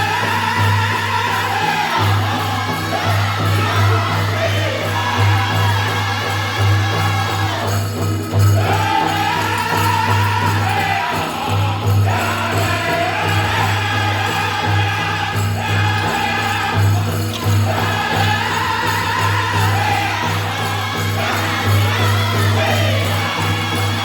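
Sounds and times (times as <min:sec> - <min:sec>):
dancers' bells jingling: 0:00.0 - 0:24.0
drum group singing in high voices: 0:00.0 - 0:24.0.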